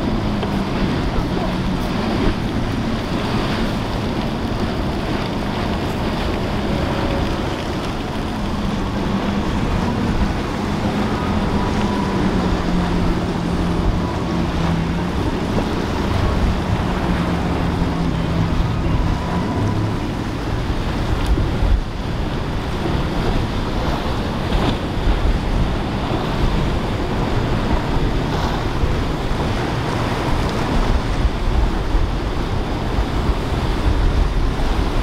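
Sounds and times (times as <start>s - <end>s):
breaking waves: 0.0s - 35.0s
motorboat engines droning: 0.0s - 35.0s
wind on microphone: 0.0s - 35.0s.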